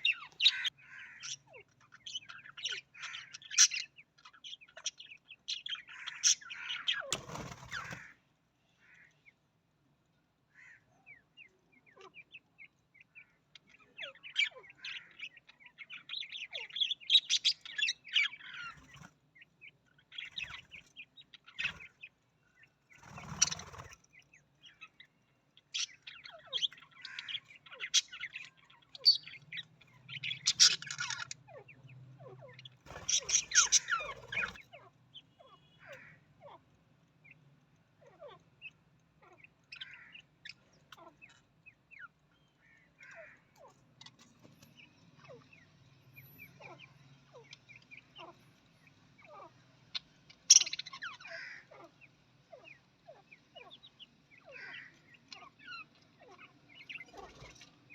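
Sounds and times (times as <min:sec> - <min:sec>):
budgerigars chirping and chattering: 0:00.0 - 0:09.4, 0:10.5 - 0:57.9.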